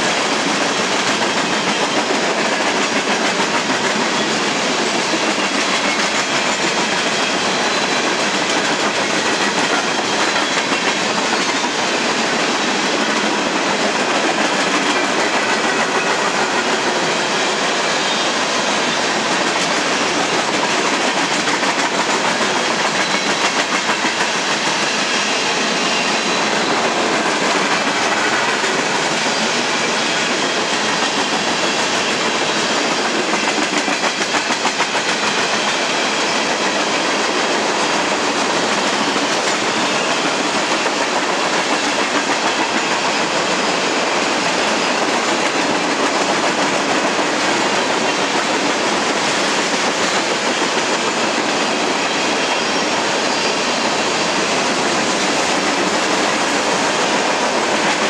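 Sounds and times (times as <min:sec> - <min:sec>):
train wheels rolling on rail: 0:00.0 - 0:58.0.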